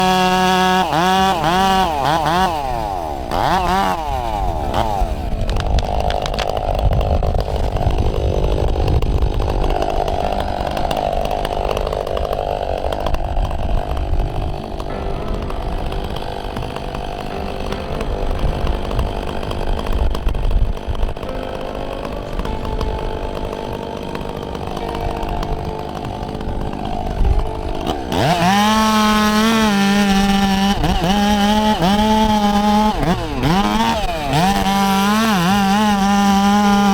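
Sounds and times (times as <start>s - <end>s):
chainsaw cutting into tree trunk: 0.0s - 36.9s
chainsaw revving: 0.0s - 36.9s.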